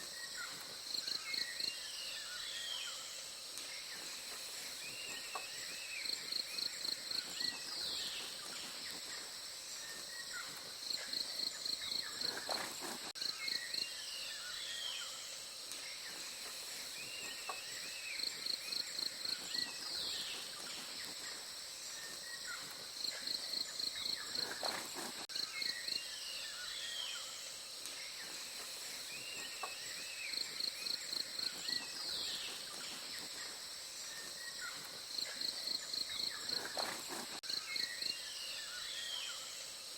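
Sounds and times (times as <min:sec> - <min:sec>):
birds chirping: 0:00.0 - 0:39.5
insect drone: 0:00.0 - 0:39.9.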